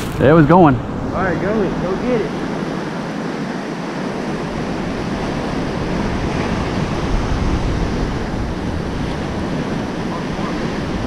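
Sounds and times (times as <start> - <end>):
ocean surf washing on beach: 0.0 - 11.0
wind buffeting microphone: 0.0 - 11.0.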